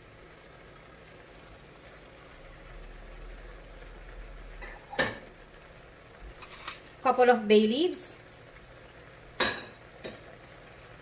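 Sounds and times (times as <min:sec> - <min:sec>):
stew simmering in a pot: 0:00.0 - 0:11.0.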